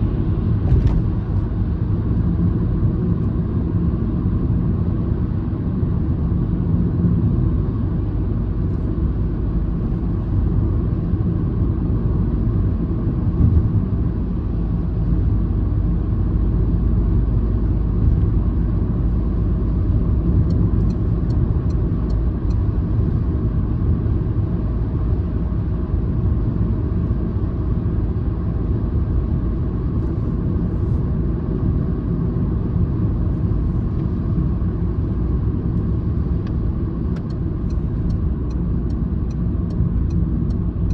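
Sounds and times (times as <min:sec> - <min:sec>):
car engine and tyres rumbling: 0:00.0 - 0:40.9.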